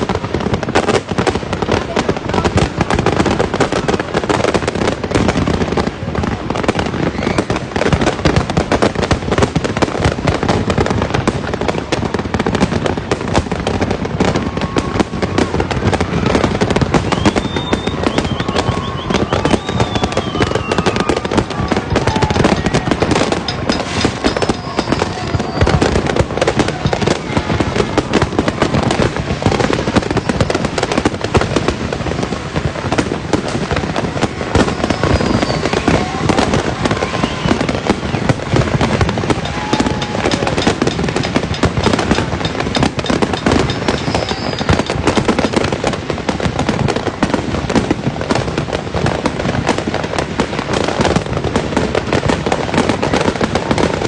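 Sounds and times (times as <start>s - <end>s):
fireworks crackling bangs: 0.0s - 54.0s
whistling fireworks: 0.0s - 54.0s.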